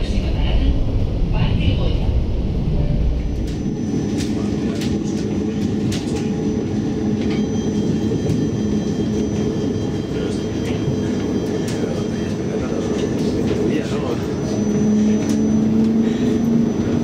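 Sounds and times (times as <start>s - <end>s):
tram rumbling on track: 0.0s - 17.0s.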